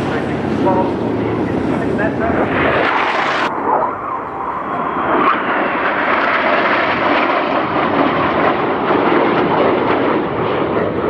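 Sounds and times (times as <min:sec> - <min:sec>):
jet fighters flying overhead: 0:00.0 - 0:11.0.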